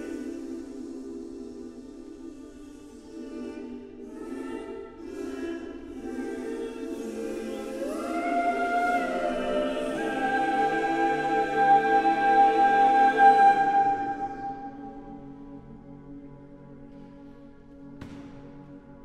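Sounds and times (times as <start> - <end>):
choir holding a chord: 0.0 - 15.6.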